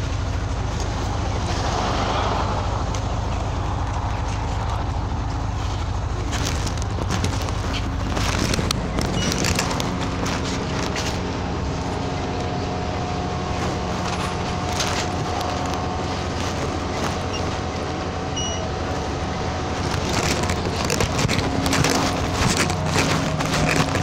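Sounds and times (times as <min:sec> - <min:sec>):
bus diesel engine hum: 0:00.0 - 0:24.0
interior rattles and clicks: 0:02.8 - 0:24.0.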